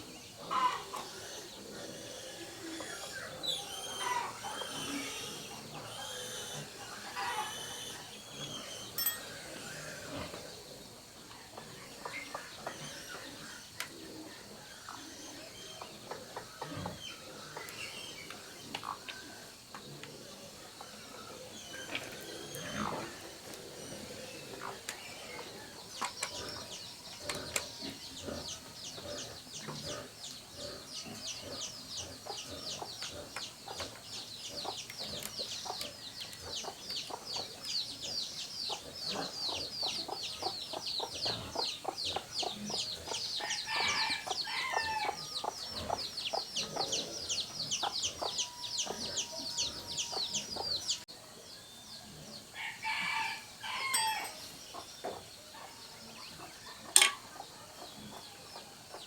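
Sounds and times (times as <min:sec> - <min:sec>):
chickens clucking: 0:00.0 - 0:59.0
chicks peeping: 0:00.0 - 0:59.0.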